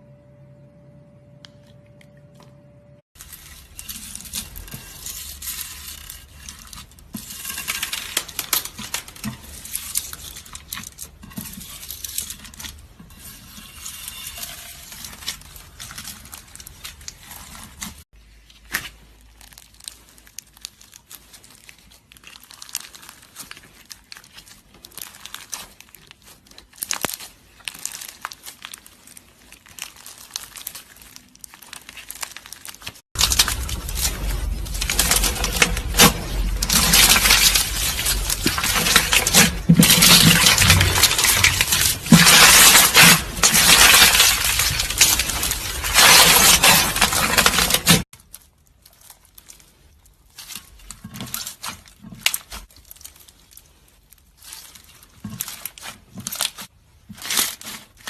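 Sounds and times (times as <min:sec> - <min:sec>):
slime crackling and popping: 0:03.2 - 0:58.0.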